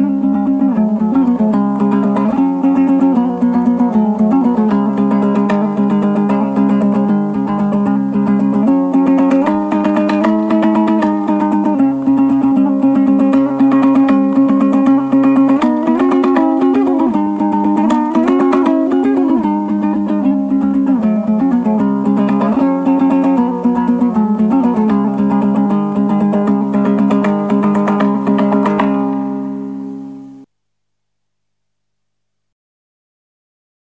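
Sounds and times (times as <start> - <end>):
plucked string instrument music: 0.0 - 30.5.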